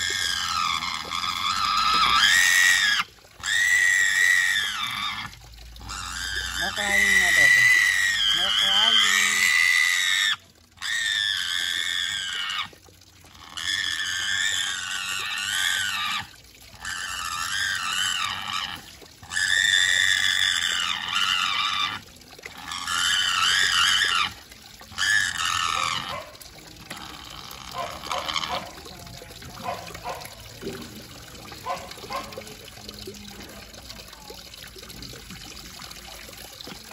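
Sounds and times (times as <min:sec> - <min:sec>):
piglet squealing: 0:00.0 - 0:28.8, 0:29.6 - 0:30.4, 0:31.6 - 0:32.5
tap water running into basin: 0:00.0 - 0:36.9.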